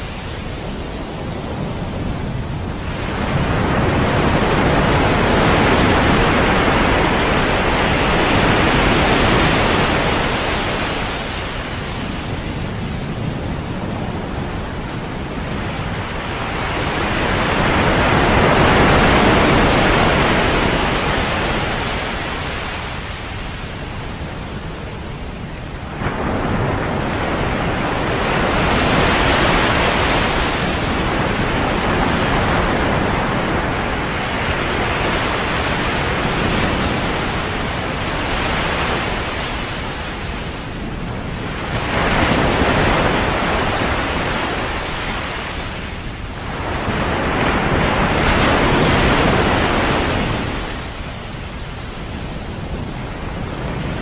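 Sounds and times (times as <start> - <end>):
sea waves breaking: 0.0 - 54.0.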